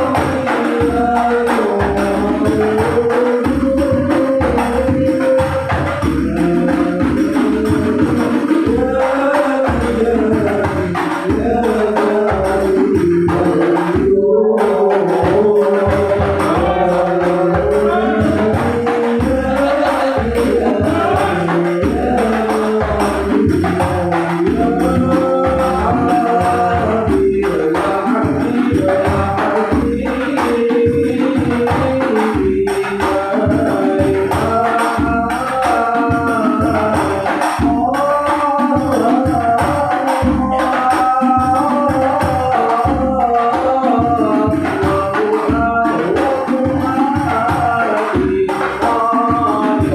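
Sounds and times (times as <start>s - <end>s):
devotional singing: 0.0s - 49.9s.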